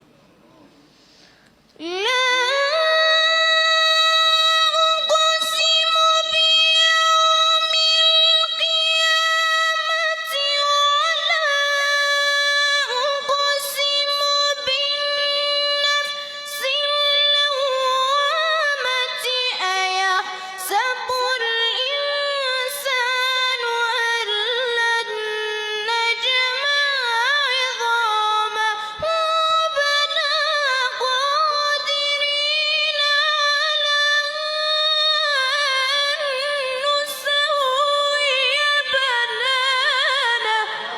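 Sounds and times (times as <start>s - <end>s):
person reciting melodically: 1.8s - 40.9s.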